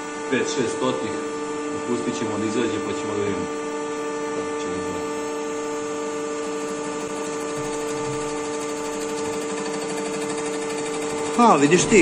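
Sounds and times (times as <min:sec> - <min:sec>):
milling machine humming and whining: 0:00.0 - 0:12.0.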